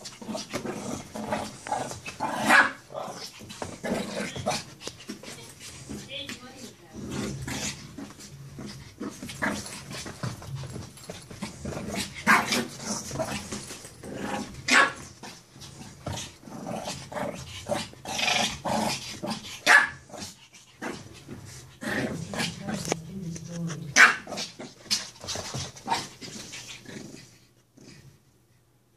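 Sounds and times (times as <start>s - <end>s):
puppy play-growling: 0.0s - 28.4s.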